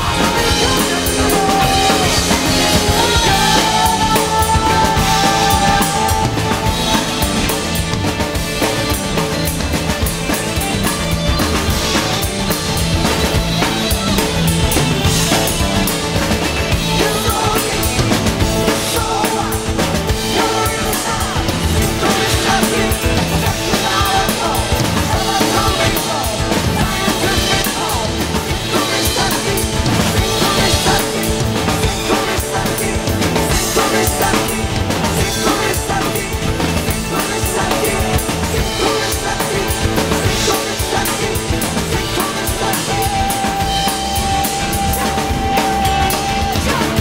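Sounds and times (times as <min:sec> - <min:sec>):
fast rock drumming: 0:00.0 - 0:47.0
rock band recording: 0:00.0 - 0:47.0.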